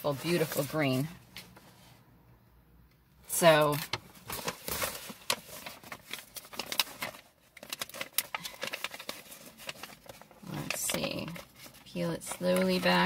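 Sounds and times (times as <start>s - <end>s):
plastic-covered canvas crinkling: 0.0s - 1.1s, 3.3s - 13.0s.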